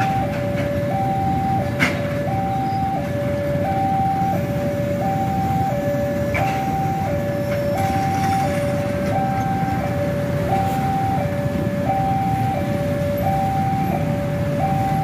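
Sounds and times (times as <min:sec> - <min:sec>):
train wagons rumbling past: 0:00.0 - 0:15.0
two-tone crossing alarm: 0:00.0 - 0:15.0.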